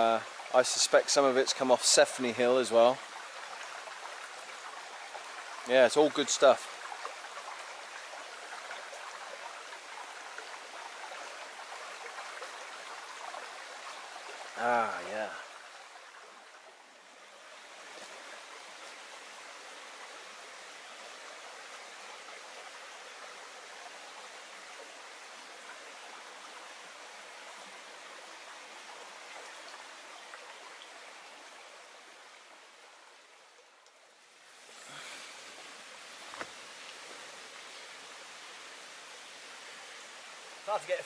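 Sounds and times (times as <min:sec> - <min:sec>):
brook water flowing: 0:00.0 - 0:41.0.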